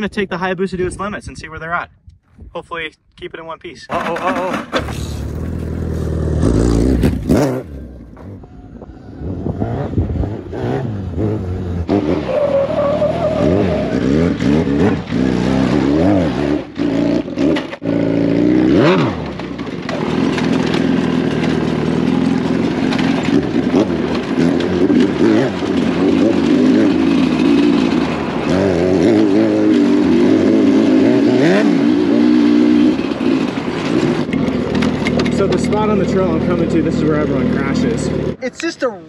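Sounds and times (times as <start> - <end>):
motorcycle engines revving: 4.0 - 39.0.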